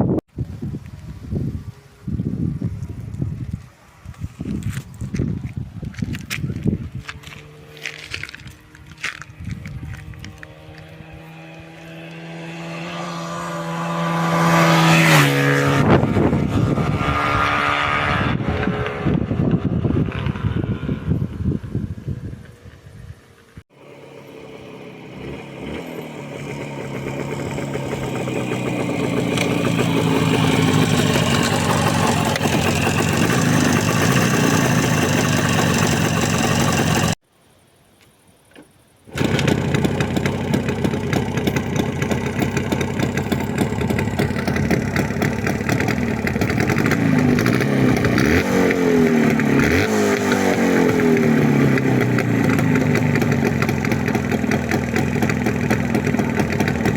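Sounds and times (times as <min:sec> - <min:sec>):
motorcycle engine running: 0:06.0 - 0:22.5, 0:23.8 - 0:37.2, 0:39.1 - 0:56.9.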